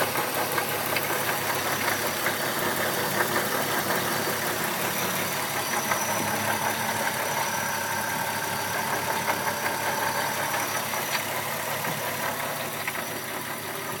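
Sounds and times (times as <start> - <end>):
car engine idling: 0.0 - 14.0
engine knocking: 0.0 - 14.0.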